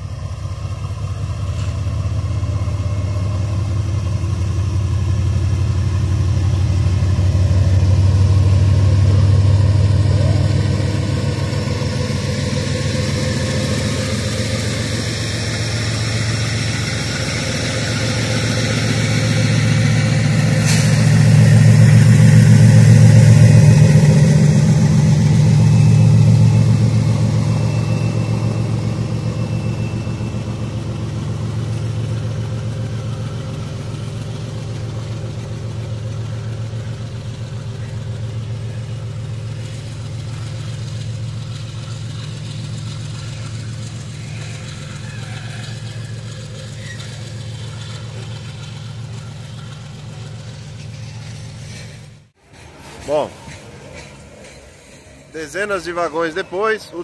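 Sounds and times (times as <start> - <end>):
locomotive diesel engine passing: 0.0 - 57.0.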